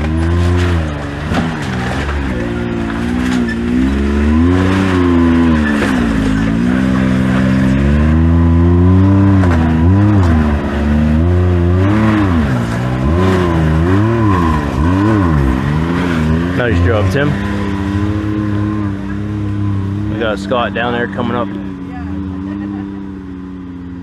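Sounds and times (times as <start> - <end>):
utility vehicle engine revving: 0.0 - 24.0.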